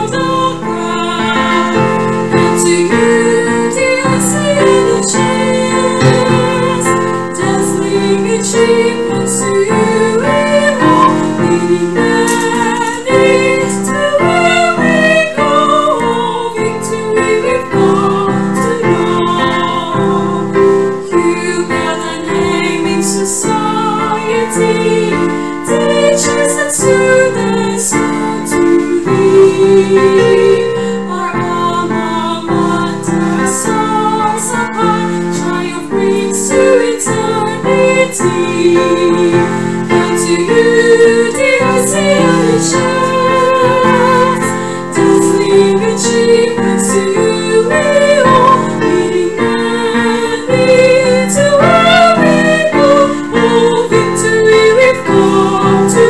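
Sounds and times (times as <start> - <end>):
choir singing a hymn: 0.0 - 56.0
piano accompaniment: 0.0 - 56.0.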